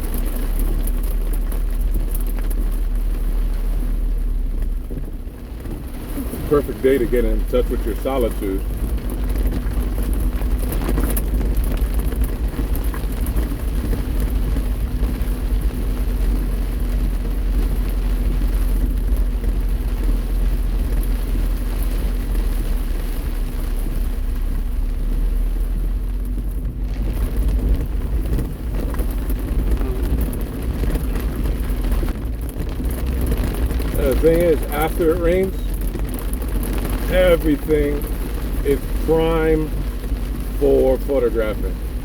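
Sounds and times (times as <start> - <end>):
rain on car: 0.0 - 42.0
road rumble: 0.0 - 42.0
tyres hissing on wet road: 0.0 - 42.0.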